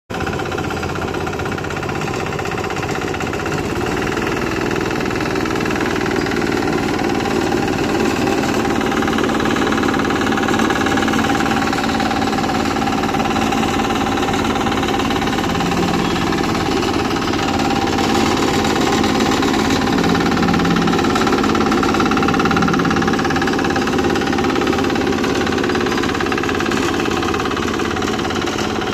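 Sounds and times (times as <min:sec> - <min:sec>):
road roller engine running: 0:00.1 - 0:28.9.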